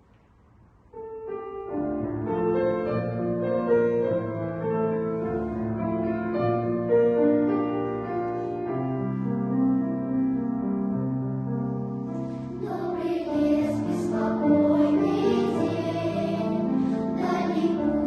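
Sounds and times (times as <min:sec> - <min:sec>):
piano playing: 0:00.9 - 0:18.0.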